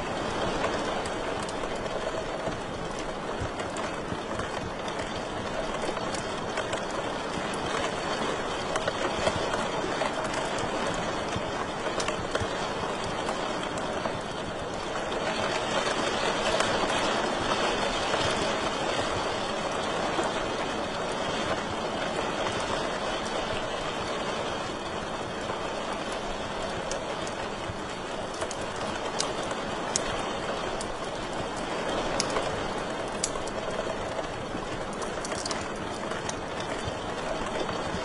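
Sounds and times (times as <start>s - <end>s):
fire popping: 0.0s - 38.0s
wood fire crackling: 0.0s - 38.0s.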